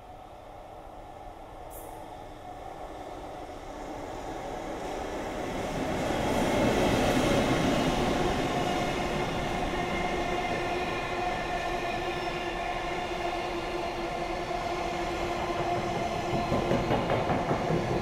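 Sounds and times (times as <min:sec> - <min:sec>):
electric locomotive passing: 0:00.3 - 0:18.0.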